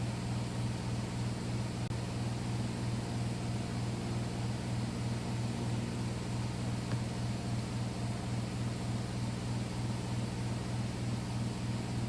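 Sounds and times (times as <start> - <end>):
heat pump humming: 0.0 - 12.0.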